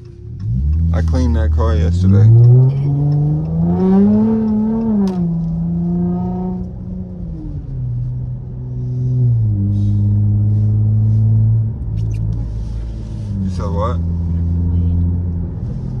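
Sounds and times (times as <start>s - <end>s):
car exhaust droning: 0.0s - 16.0s.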